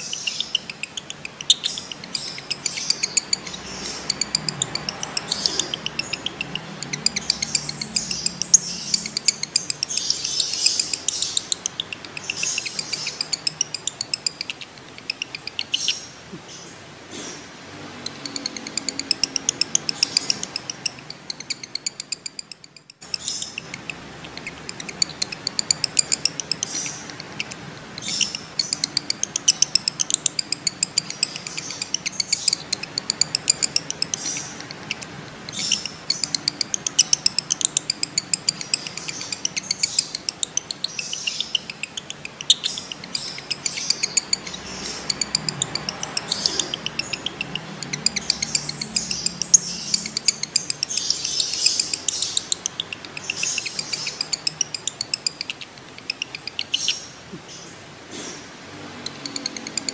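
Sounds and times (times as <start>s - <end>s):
lovebird chattering chirps: 0.0s - 59.9s.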